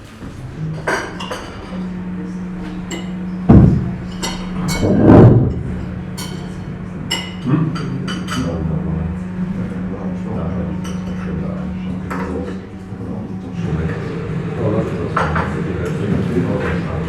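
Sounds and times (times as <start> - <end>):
steady low hum: 0.0 - 17.0
crockery and cutlery clinking: 0.7 - 16.9
low thumps: 0.7 - 16.9.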